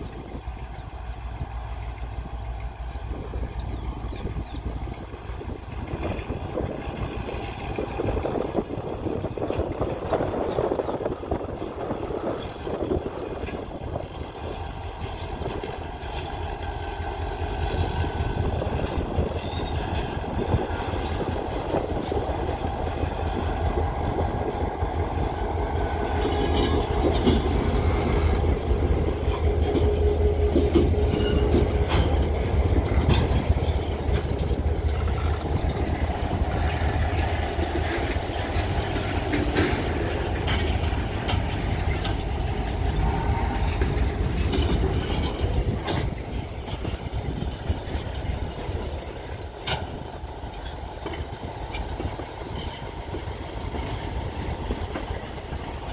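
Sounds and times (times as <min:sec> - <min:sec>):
diesel locomotive hum: 0:00.0 - 0:55.9
train wheels clicking over rail joints: 0:00.0 - 0:55.9.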